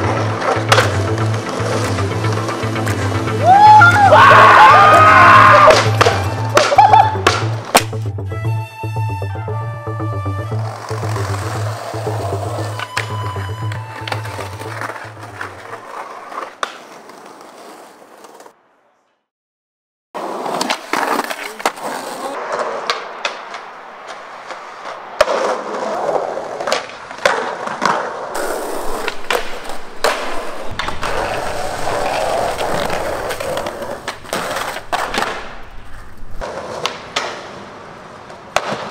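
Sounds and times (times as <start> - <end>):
skateboard clacking: 0.0 - 4.1, 5.4 - 8.0, 10.6 - 18.6, 20.5 - 38.9
skateboard wheels rolling on concrete: 0.0 - 19.1, 20.2 - 38.9.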